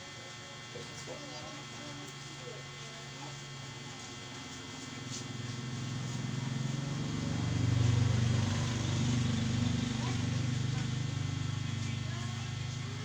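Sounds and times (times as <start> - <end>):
small engine buzzing hum: 0.3 - 13.0.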